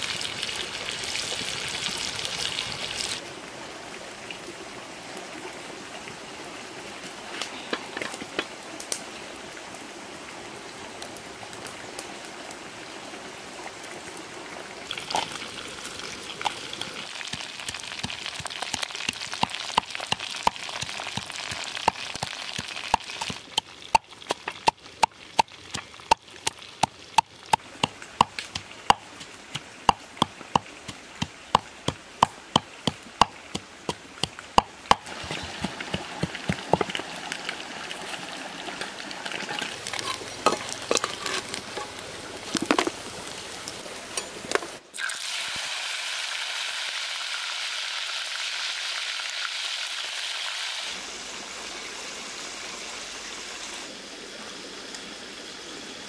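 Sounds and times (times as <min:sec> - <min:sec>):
pot boiling with bubbling hiss: 0:00.0 - 0:56.0.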